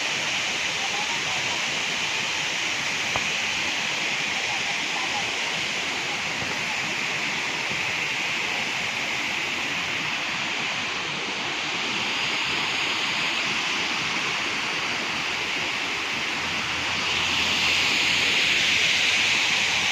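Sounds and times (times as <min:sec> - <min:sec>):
waterfall rushing: 0:00.0 - 0:19.9.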